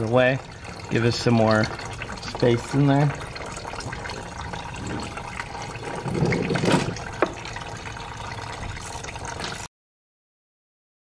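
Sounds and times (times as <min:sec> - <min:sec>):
coolant draining from hose: 0:00.0 - 0:09.7.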